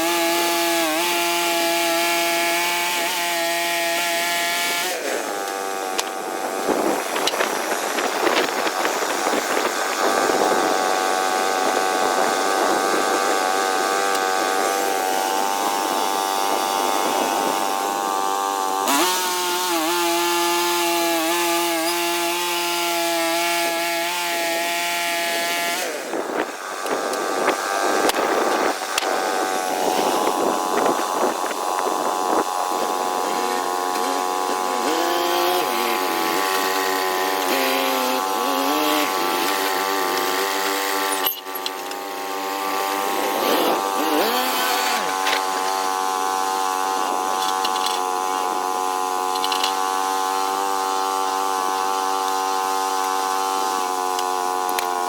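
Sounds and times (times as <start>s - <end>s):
sawmill cutting log: 0.0s - 55.0s.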